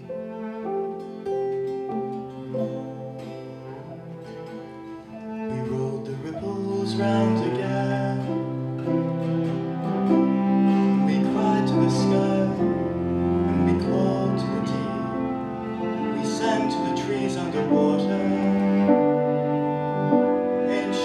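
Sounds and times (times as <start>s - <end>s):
folk chamber ensemble playing: 0.0s - 21.0s.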